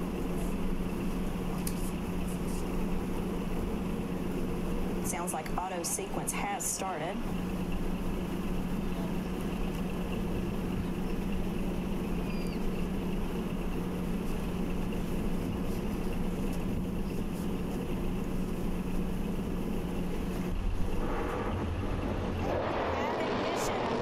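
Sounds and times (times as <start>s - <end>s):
rocket engine deep rumble: 0.0s - 24.0s
steady test stand hum: 0.0s - 24.0s.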